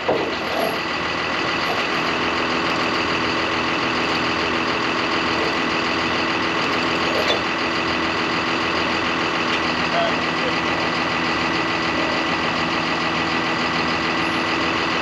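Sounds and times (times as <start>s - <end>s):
heavy diesel engine idling: 0.0s - 15.0s.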